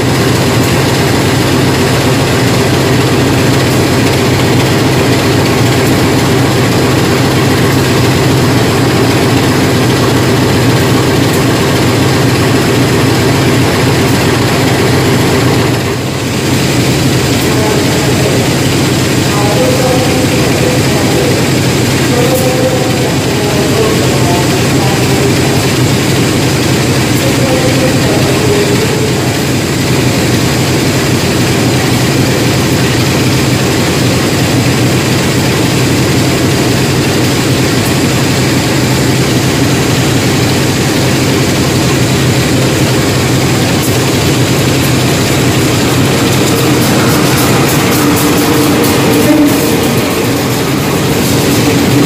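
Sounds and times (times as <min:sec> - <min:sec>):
train diesel engine idling: 0:00.0 - 0:52.0.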